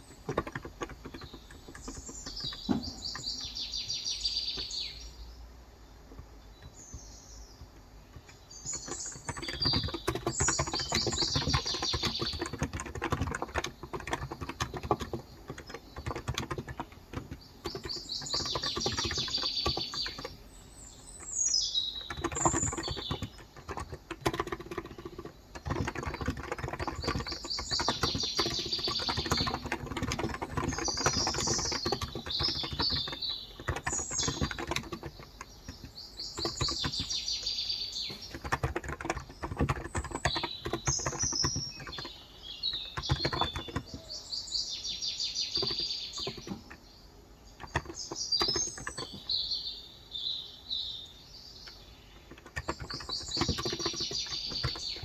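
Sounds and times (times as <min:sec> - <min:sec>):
fast typing on a keyboard: 0:00.0 - 0:04.8, 0:06.1 - 0:44.2, 0:45.0 - 0:46.9, 0:47.5 - 0:49.5, 0:51.6 - 0:55.0
small birds chirping: 0:00.0 - 0:55.0.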